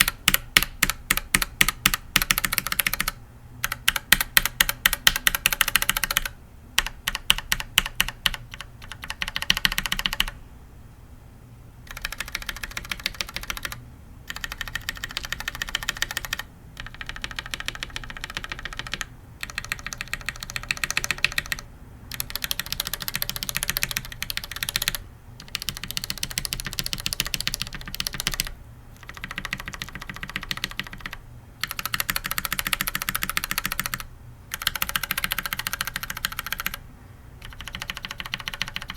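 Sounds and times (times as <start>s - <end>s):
mechanical keyboard switches tapped: 0.0s - 10.4s, 11.9s - 36.8s, 37.4s - 38.9s.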